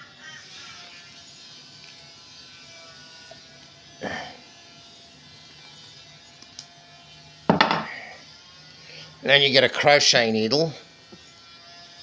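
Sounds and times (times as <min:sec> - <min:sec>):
faint electrical buzz: 0:00.0 - 0:12.0.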